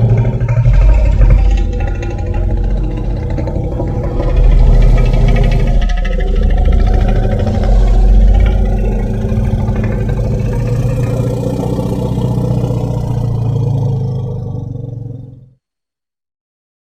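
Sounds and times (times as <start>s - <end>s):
deep rough creature growl: 0.0s - 15.6s.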